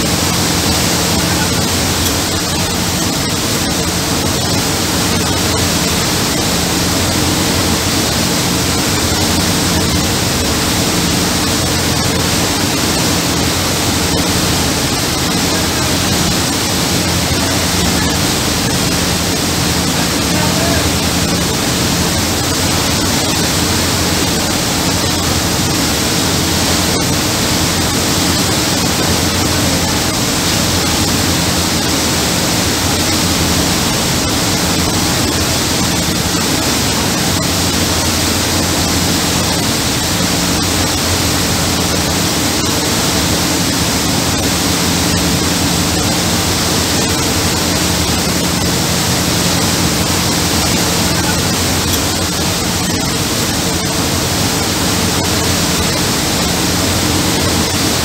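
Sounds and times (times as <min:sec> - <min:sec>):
boat wake rushing: 0:00.0 - 0:58.0
low engine drone: 0:00.0 - 0:58.0.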